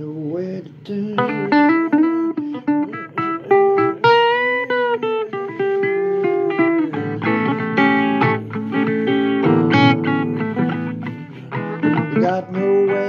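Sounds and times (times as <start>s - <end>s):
blues guitar plucked notes: 1.1s - 13.0s.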